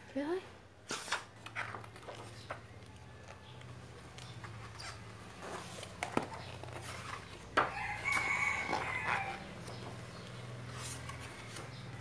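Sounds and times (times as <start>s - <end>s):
paper pages turning: 0.9s - 12.0s.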